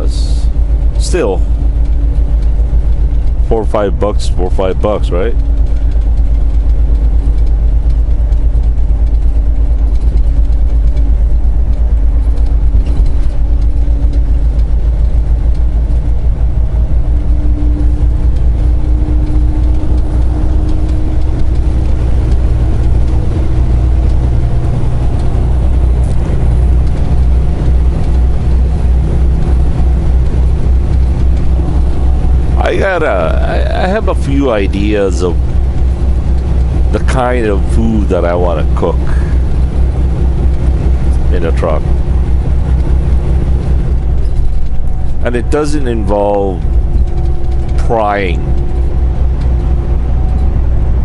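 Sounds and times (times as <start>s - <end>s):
truck engine and road rumble: 0.0s - 51.0s.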